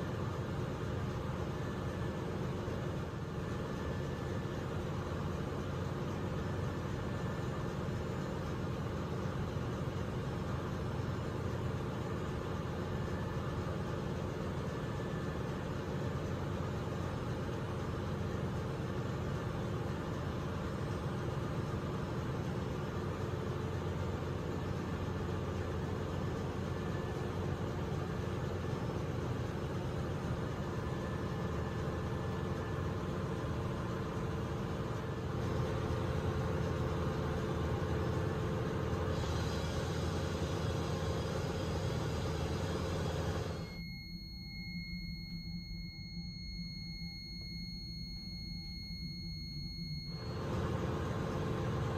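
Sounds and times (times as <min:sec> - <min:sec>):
ship machinery drone: 0:00.0 - 0:51.9.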